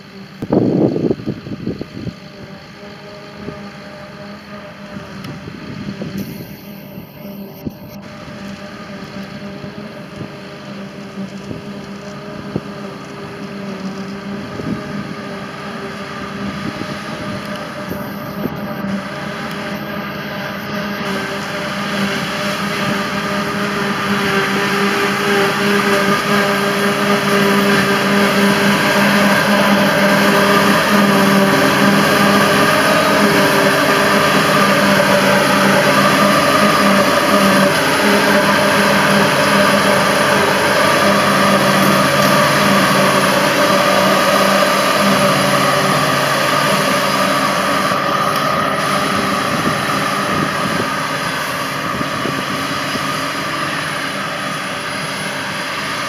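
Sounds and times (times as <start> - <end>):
forage harvester engine droning: 0.0 - 56.0
tractor engine: 0.0 - 56.0.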